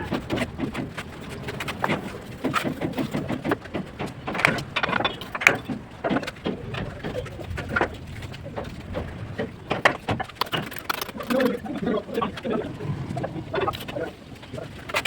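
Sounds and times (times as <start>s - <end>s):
tools tapping on brick: 0.0s - 12.5s.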